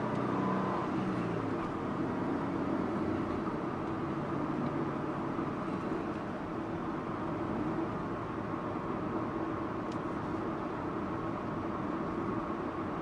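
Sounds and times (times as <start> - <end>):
car engine hum: 0.0 - 13.0
tyre and road noise: 0.0 - 13.0.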